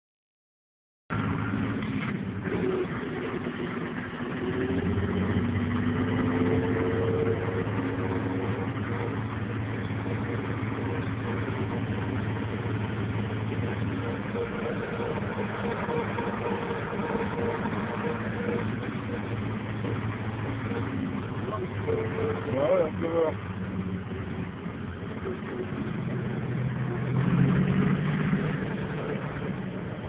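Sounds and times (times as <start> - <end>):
tractor diesel engine running: 1.1 - 30.0.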